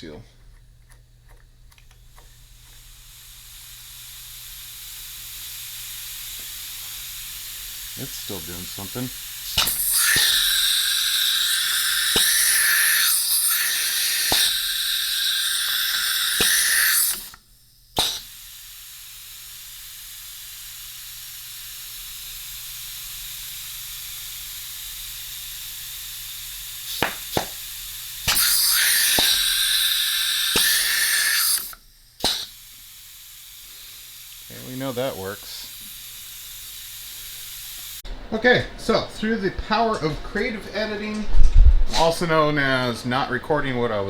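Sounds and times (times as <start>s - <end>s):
compressed air hissing: 1.9s - 44.0s.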